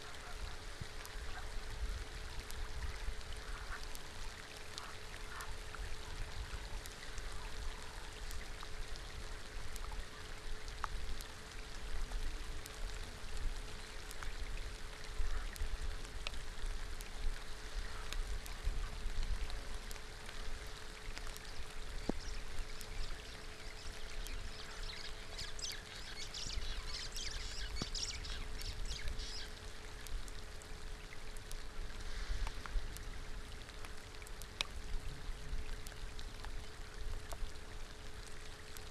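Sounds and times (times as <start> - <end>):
faint steady hum: 0.0 - 38.9
rain falling on a pool: 0.0 - 38.9.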